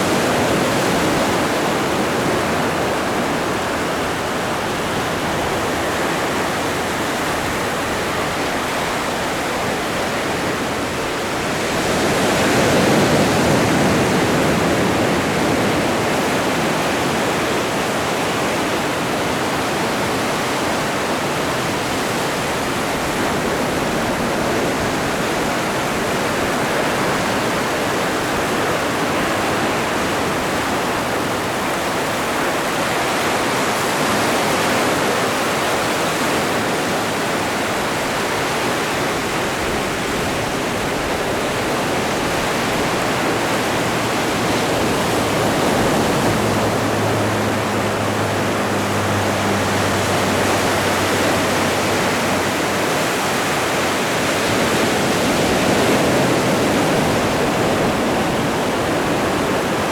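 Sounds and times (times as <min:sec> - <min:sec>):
ocean surf washing: 0:00.0 - 0:59.9
wave breaking: 0:00.0 - 0:59.9.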